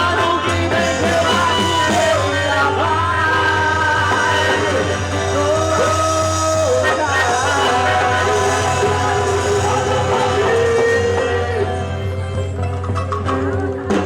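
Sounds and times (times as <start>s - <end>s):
folk music with singing: 0.0s - 14.0s.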